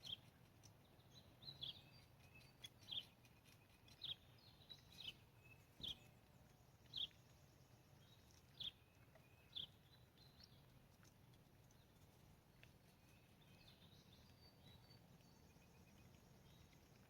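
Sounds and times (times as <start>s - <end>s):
faint background noise: 0.0s - 17.0s
small bird chirping: 0.0s - 17.0s.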